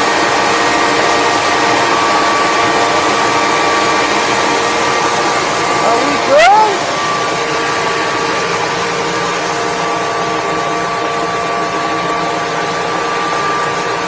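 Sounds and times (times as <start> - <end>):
generator running: 0.0 - 14.0
steady machine tones: 0.0 - 14.0.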